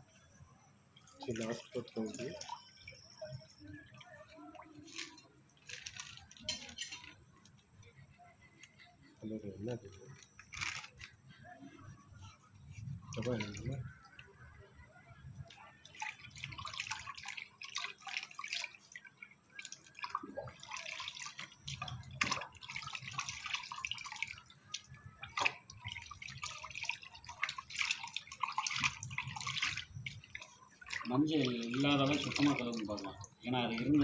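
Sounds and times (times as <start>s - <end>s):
water splashing and sloshing: 0.0s - 34.0s.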